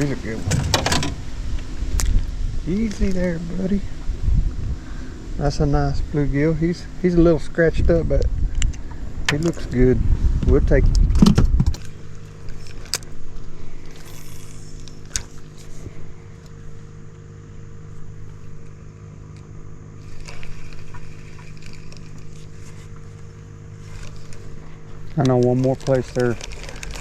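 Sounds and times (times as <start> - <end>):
electric boat motor humming: 0.0 - 27.0.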